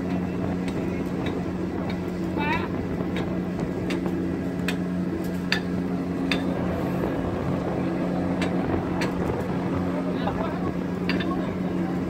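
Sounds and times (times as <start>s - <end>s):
sea noise: 0.0s - 12.0s
ship machinery hum: 0.0s - 12.0s
wind: 0.0s - 12.0s.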